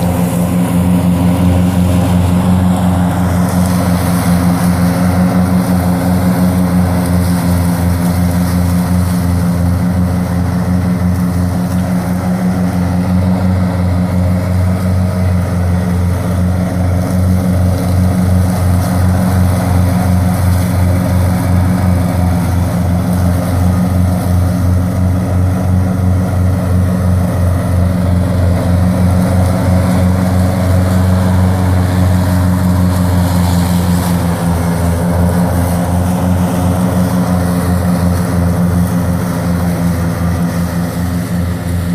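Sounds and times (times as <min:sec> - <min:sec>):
lawn tractor engine running: 0:00.0 - 0:41.9.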